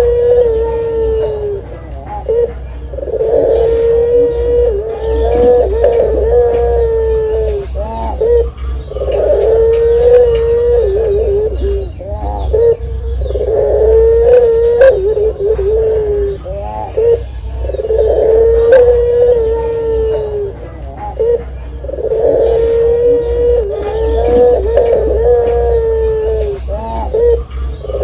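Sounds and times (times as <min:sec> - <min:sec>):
dove cooing: 0:00.0 - 0:28.0.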